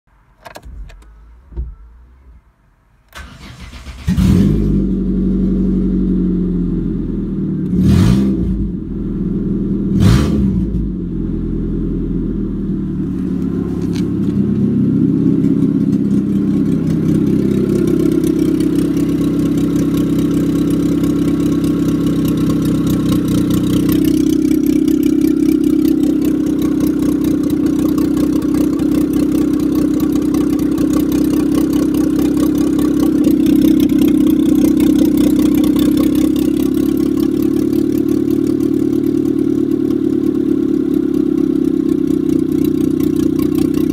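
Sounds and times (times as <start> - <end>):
car engine revving and idling: 3.2 - 43.9.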